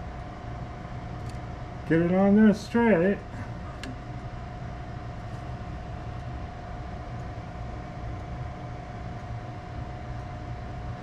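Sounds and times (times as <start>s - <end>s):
faint whine: 0.0s - 11.0s
low machine hum: 0.0s - 11.0s.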